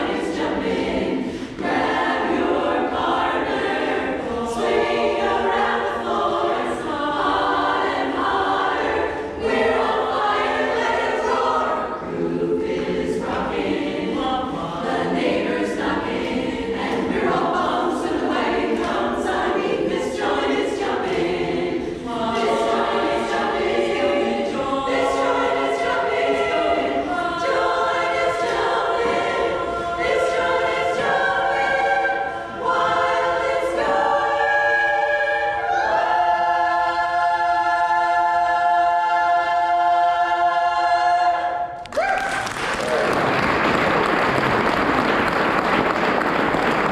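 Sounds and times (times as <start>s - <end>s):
women's chorus singing: 0.0s - 41.8s.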